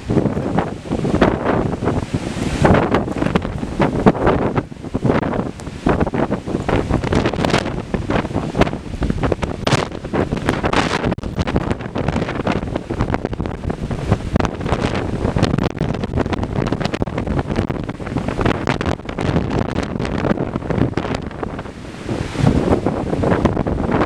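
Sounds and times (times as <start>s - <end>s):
storm wind buffeting microphone: 0.0s - 24.0s.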